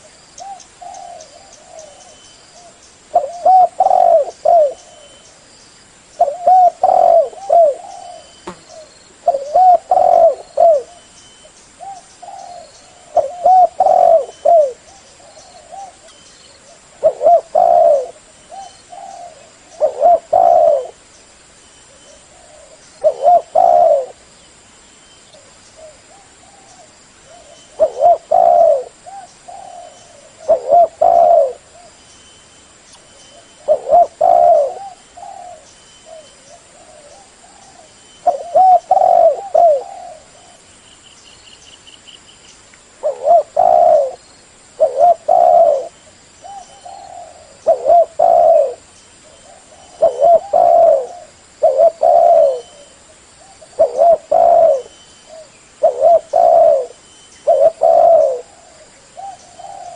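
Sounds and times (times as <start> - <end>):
dove cooing: 0.0 - 5.2, 6.2 - 11.1, 11.8 - 21.0, 22.0 - 24.2, 25.4 - 32.0, 33.3 - 40.7, 43.0 - 44.2, 44.8 - 59.9.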